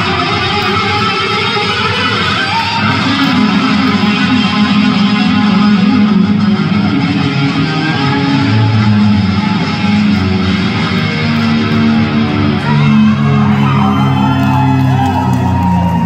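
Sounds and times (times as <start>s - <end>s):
bent guitar notes: 0.0s - 16.0s
live rock band: 0.0s - 16.0s.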